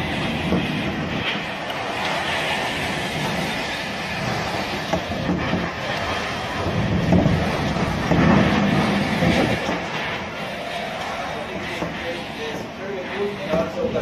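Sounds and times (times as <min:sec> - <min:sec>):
wind gusting against microphone: 0:00.0 - 0:14.0.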